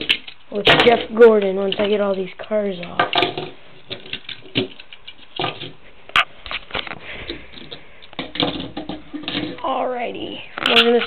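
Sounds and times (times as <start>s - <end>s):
toy cars clicking and rattling: 0.0s - 9.8s, 10.6s - 11.0s.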